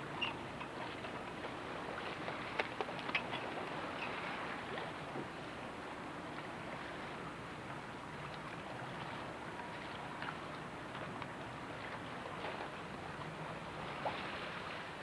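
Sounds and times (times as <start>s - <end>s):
water rushing around boat: 0.0s - 15.0s.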